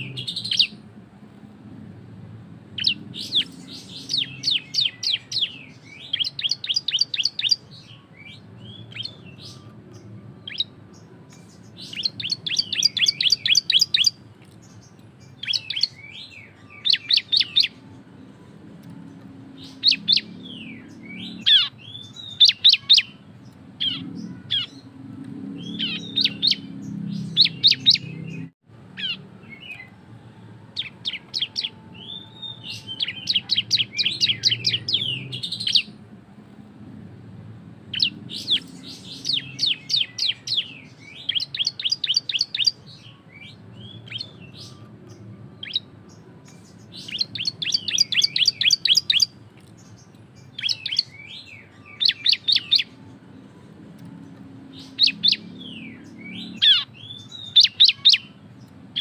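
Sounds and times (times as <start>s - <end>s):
bird chirping song: 0.0s - 36.2s, 36.8s - 59.0s.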